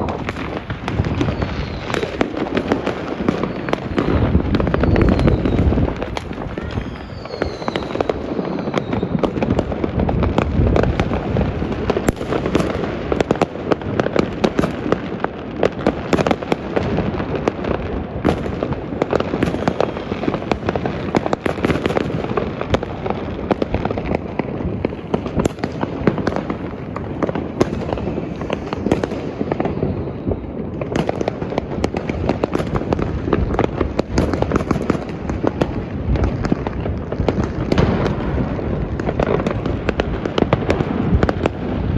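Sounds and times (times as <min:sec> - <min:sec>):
fireworks and firecrackers crackling: 0:00.0 - 0:41.9.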